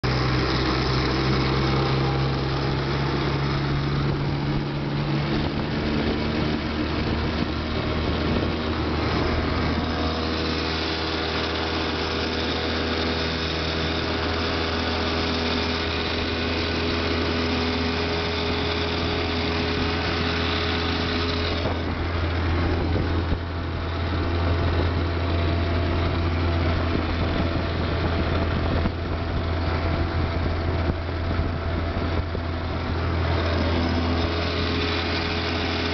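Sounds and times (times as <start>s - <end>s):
outboard motor buzzing: 0.0s - 35.9s
water rushing along hull: 0.0s - 35.9s.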